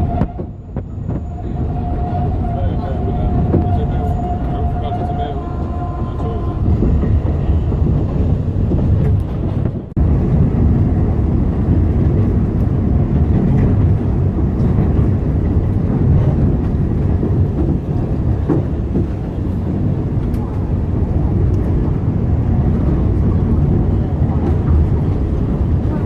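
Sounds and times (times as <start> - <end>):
train rumbling along track: 0.0 - 26.0.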